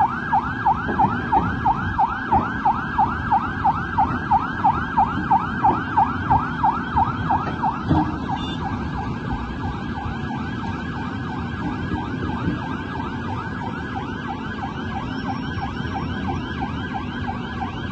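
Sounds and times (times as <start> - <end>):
emergency siren yelping: 0.0 - 17.9.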